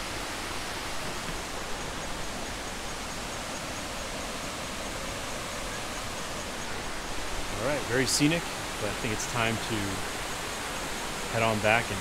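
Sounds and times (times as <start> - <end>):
river and waterfall rushing: 0.0 - 12.0.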